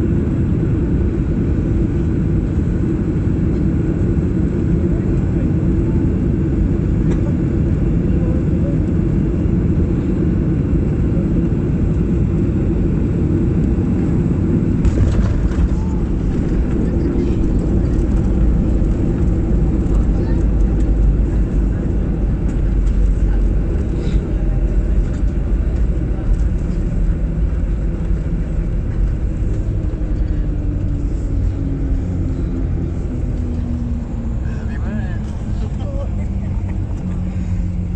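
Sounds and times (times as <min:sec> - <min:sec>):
jet engine rumble: 0:00.0 - 0:37.9.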